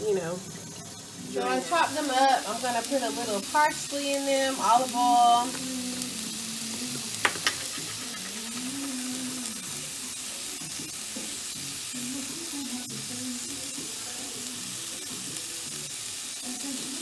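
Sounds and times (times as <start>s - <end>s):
food frying sizzle: 0.0s - 17.0s.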